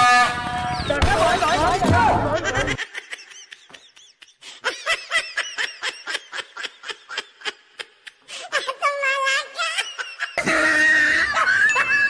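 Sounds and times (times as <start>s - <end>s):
laughter: 2.3s - 12.0s.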